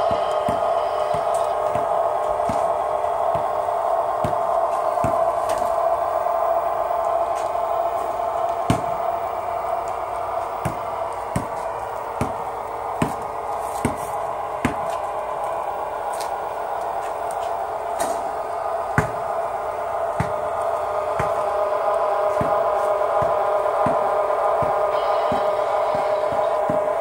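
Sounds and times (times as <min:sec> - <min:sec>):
diesel locomotive engine drone: 0:00.0 - 0:27.0
model train wheels clicking: 0:00.0 - 0:27.0.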